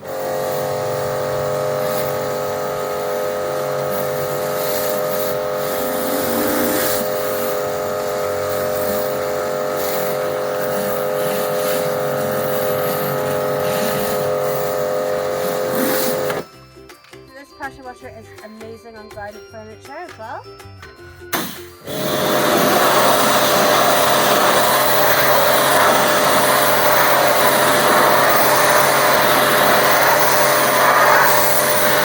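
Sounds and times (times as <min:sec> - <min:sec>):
water jet hissing: 0:00.0 - 0:16.4, 0:21.4 - 0:32.0
pressure washer motor hum: 0:00.0 - 0:16.5, 0:21.3 - 0:32.0.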